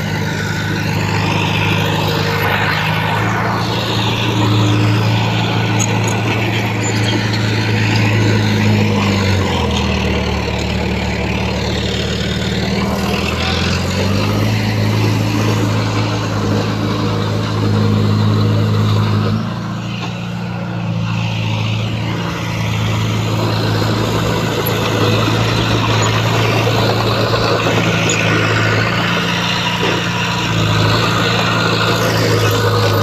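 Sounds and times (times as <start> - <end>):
diesel engine droning: 0.0 - 33.0
noisy clatter: 0.0 - 33.0.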